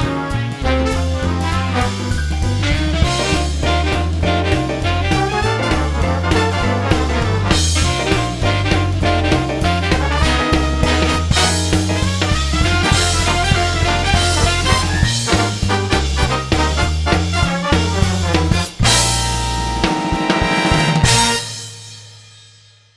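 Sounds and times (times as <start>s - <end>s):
music with drums and brass: 0.0s - 22.9s.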